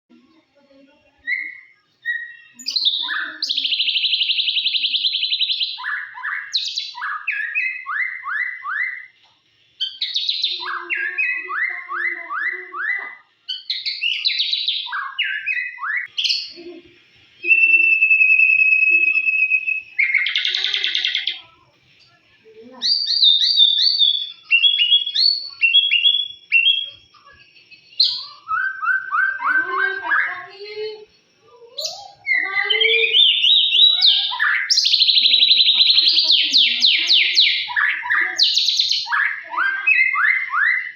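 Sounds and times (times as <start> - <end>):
songbird singing trills and whistles: 1.2 - 9.2, 9.8 - 16.7, 17.4 - 21.4, 22.8 - 40.9.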